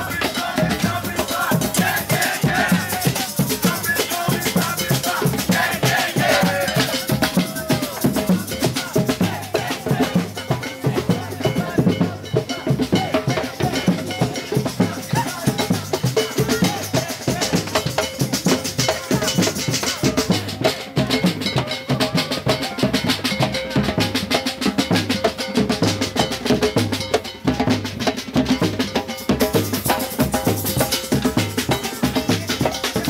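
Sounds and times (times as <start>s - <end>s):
drum-led music: 0.0s - 33.0s.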